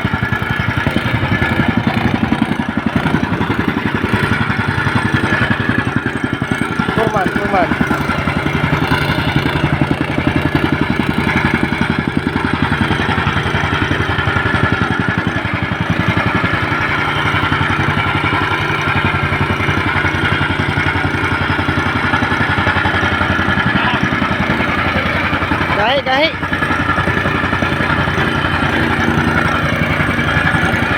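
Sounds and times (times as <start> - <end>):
small engine running steadily: 0.0 - 30.9.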